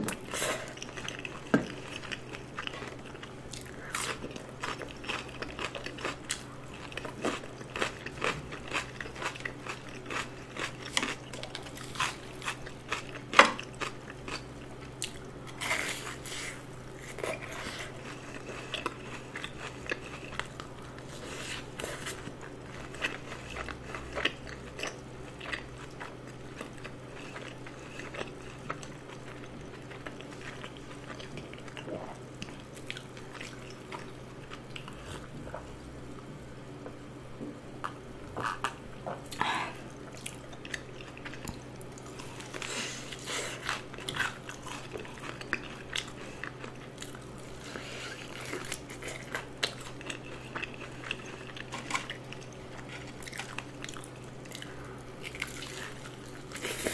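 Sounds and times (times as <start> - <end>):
low steady hum: 0.0 - 56.9
chewing and crunching fried food: 0.1 - 37.0, 37.8 - 56.9.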